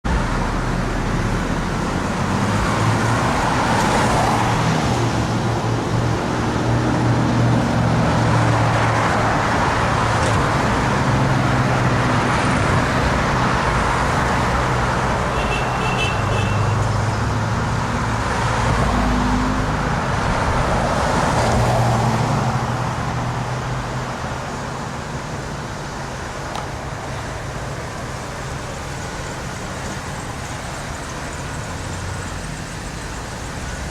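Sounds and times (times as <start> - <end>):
motor vehicles passing: 0.1 - 33.9.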